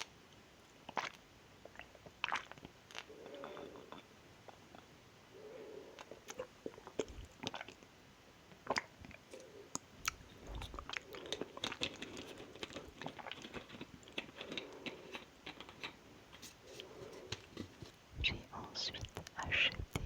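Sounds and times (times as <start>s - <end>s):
chewing sticky food: 0.0s - 20.0s.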